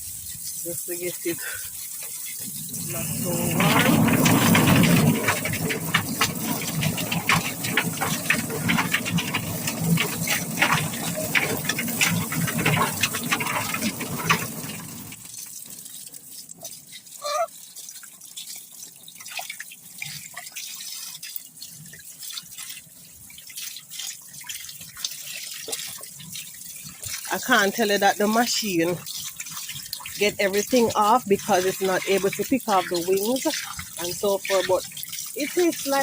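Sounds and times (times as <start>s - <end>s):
water dripping: 0.0s - 36.0s
water gushing and splashing: 0.0s - 36.0s.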